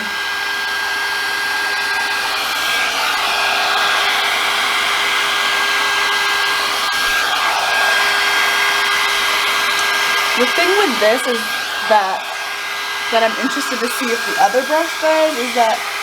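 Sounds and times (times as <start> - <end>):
hot air brush blowing: 0.0 - 16.0.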